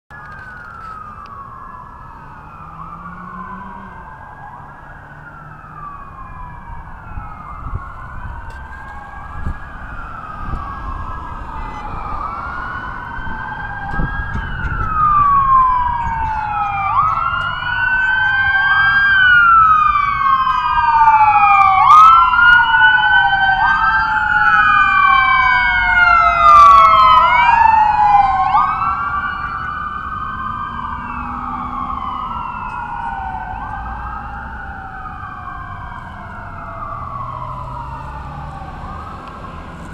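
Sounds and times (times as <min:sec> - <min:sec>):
emergency vehicle sirens wailing: 0:00.1 - 0:39.9.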